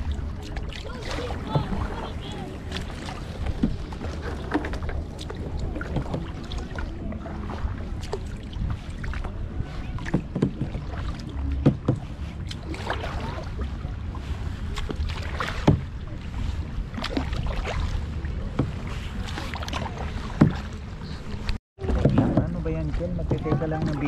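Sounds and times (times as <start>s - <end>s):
paddle splashing and dripping water: 0.0s - 24.0s.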